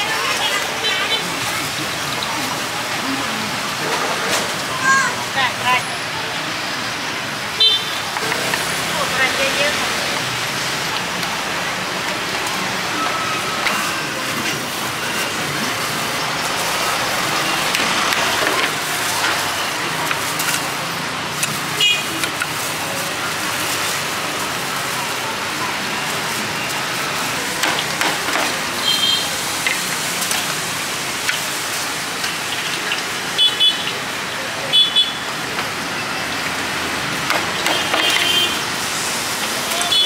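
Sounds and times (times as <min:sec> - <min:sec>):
motorbikes and cars passing: 0:00.0 - 0:34.7.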